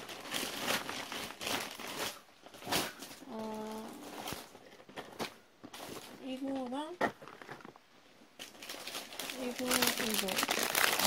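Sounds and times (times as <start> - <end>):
plastic packaging crinkling: 0.0 - 7.8, 8.4 - 11.0.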